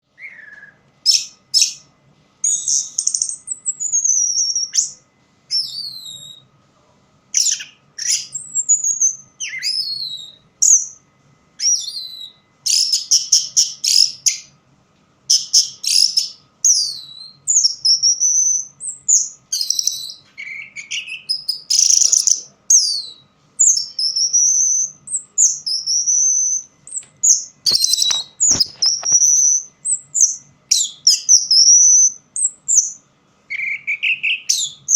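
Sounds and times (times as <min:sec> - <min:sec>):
thrush singing whistled phrases: 0:00.1 - 0:06.5, 0:07.4 - 0:11.0, 0:11.6 - 0:14.6, 0:15.3 - 0:34.9.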